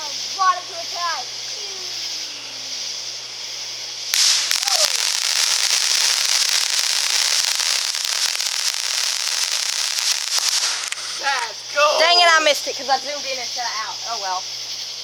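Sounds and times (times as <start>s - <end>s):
firework crackling: 0.0s - 14.4s
firework hiss: 0.0s - 15.0s.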